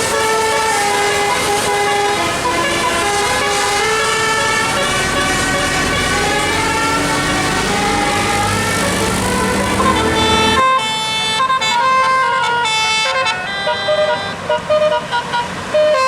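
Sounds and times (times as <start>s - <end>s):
bus engine rumble: 0.0s - 16.0s
musical air horn tune: 0.0s - 16.0s.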